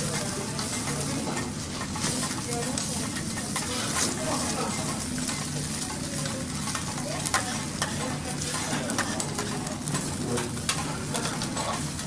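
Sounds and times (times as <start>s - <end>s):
food sizzling on a hot plate: 0.0s - 12.0s
utensils clicking on a hot plate: 0.0s - 12.0s.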